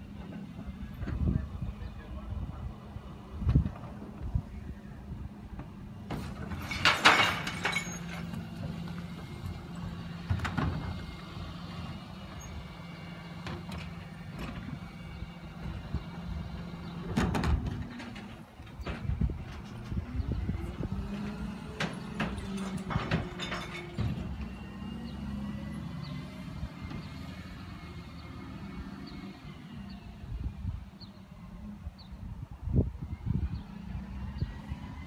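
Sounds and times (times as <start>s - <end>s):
garbage truck engine humming: 0.0s - 31.9s.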